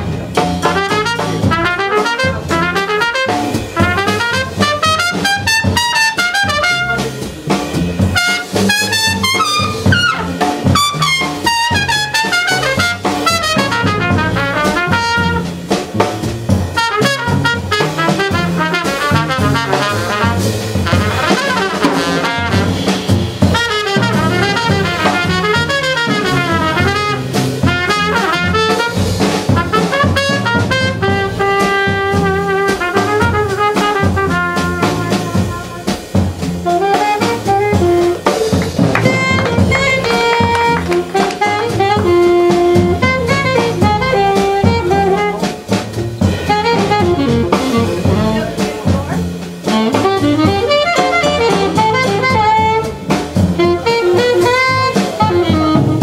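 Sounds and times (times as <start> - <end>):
double bass: 0.0 - 56.0
drum kit: 0.0 - 56.0
trumpet solo: 0.6 - 7.3, 8.1 - 15.7, 16.8 - 45.9, 46.5 - 56.0.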